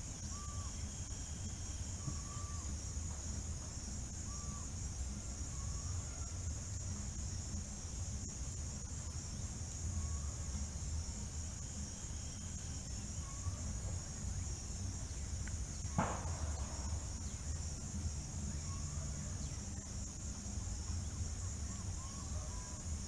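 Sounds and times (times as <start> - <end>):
faint bird chirps: 0.0 - 2.8, 4.2 - 7.0, 9.0 - 23.0
high-pitched insect trill: 0.0 - 23.0
low background rumble: 0.0 - 23.0.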